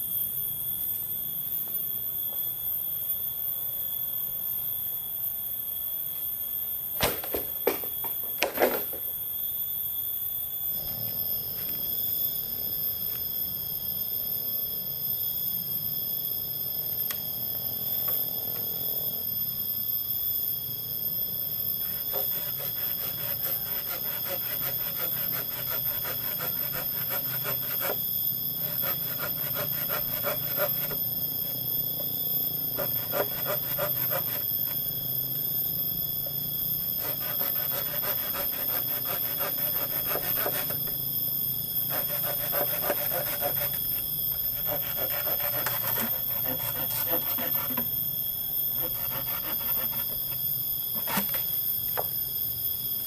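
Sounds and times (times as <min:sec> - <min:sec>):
shrill insect chorus: 0:00.0 - 0:53.0.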